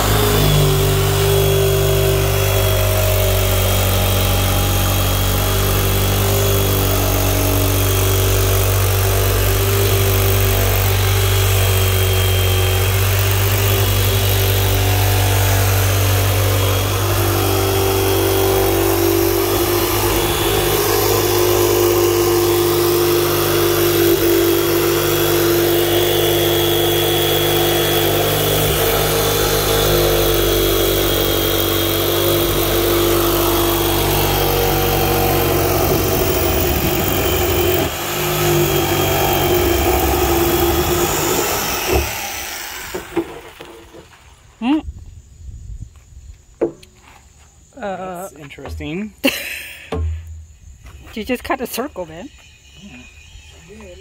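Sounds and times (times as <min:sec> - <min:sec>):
jigsaw cutting plastic: 0:00.0 - 0:44.1.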